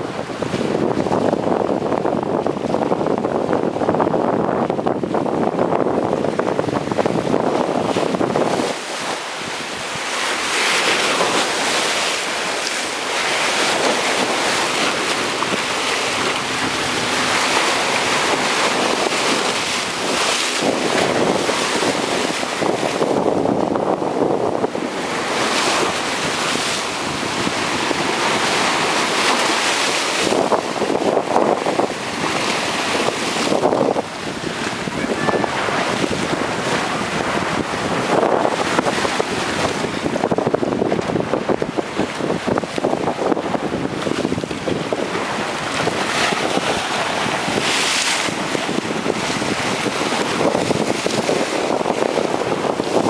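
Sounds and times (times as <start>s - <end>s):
surf breaking against seawall: 0.0s - 53.0s
wind buffeting microphone: 0.0s - 53.0s.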